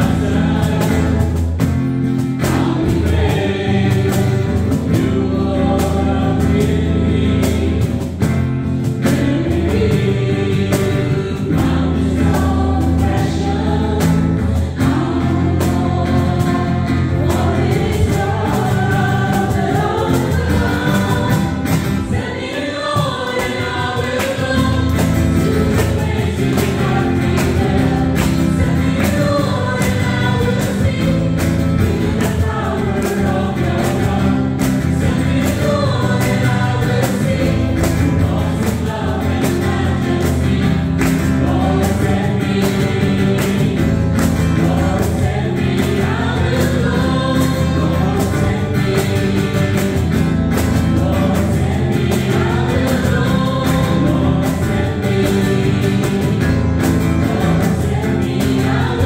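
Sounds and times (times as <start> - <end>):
group singing gospel song: 0.0 - 59.0
instrumental accompaniment with beat: 0.0 - 59.0.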